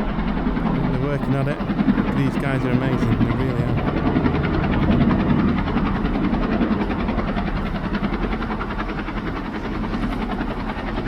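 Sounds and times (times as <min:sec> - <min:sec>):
helicopter engine running: 0:00.0 - 0:11.0
helicopter rotor chopping: 0:00.0 - 0:11.0.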